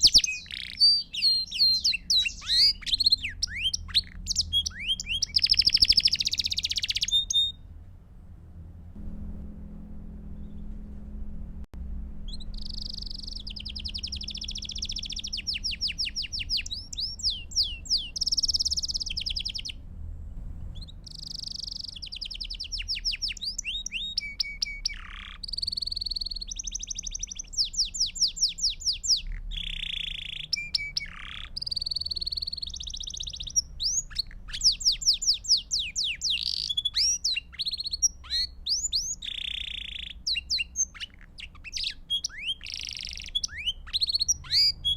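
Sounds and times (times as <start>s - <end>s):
canary singing trills: 0.0s - 7.6s, 12.2s - 19.8s, 20.7s - 44.9s
faint low hum: 0.0s - 44.9s.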